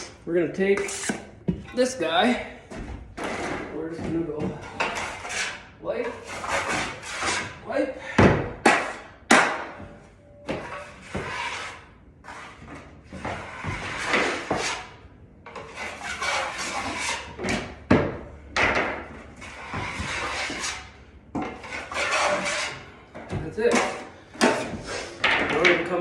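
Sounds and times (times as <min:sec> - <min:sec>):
drywall knife scraping compound: 0:00.0 - 0:02.4, 0:03.2 - 0:07.6, 0:08.5 - 0:09.8, 0:10.5 - 0:17.8, 0:19.4 - 0:26.0.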